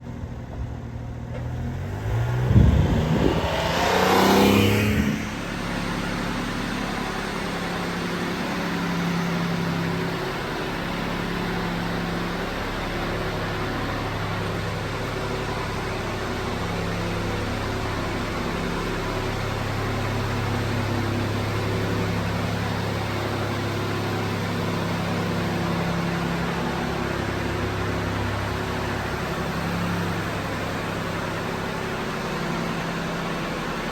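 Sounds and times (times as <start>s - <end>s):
truck engine starting and idling: 0.0s - 33.9s.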